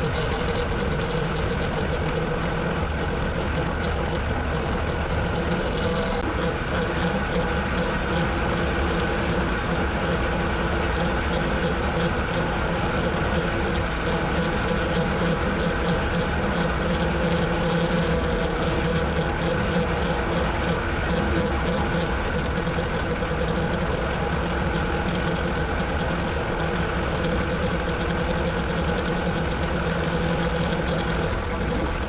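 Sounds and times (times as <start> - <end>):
rotary cutter mowing: 0.0 - 32.0
tractor engine running: 0.0 - 32.0.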